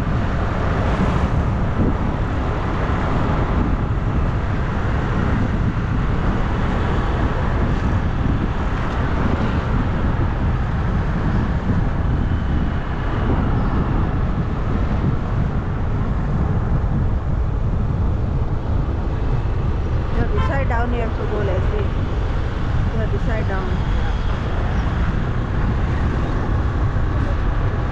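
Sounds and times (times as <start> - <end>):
road noise: 0.0 - 27.9
wind rushing on microphone: 0.0 - 27.9.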